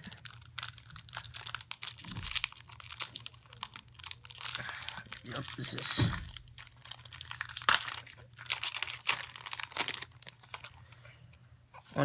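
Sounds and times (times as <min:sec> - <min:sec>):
wrapper ripping: 0:00.0 - 0:10.8
wrapper crinkling: 0:00.0 - 0:11.0.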